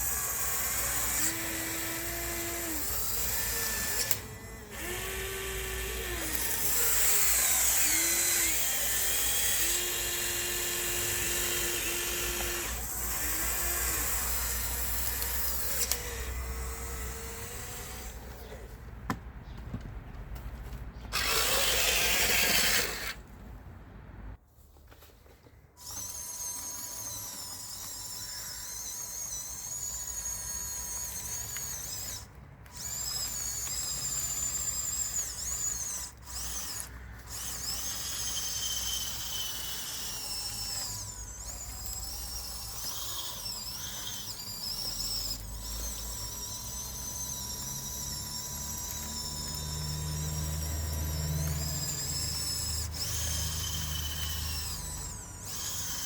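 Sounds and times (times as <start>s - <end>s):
electric motor whine: 0.0s - 18.7s, 21.1s - 23.2s, 25.8s - 56.0s.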